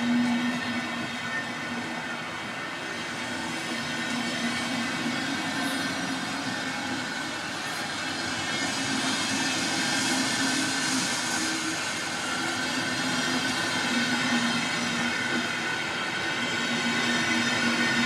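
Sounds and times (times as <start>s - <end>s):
train rolling past: 0.0s - 18.0s.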